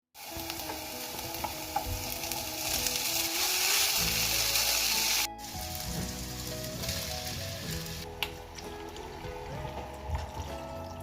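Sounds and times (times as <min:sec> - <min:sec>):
food sizzling in a frying pan: 0:00.2 - 0:09.7
background music: 0:00.2 - 0:11.0.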